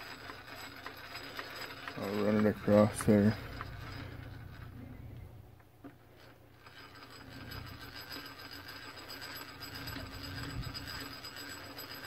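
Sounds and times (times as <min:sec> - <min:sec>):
faint mechanical hum: 0:00.0 - 0:12.0.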